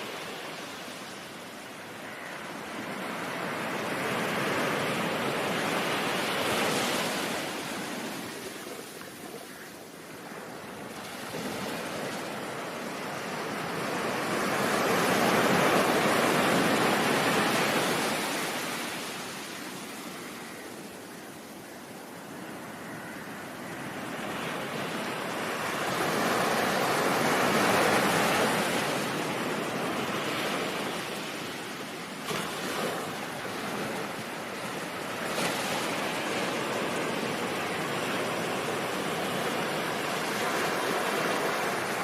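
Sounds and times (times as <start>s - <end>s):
ocean waves washing in: 0.0s - 21.0s, 22.9s - 42.0s.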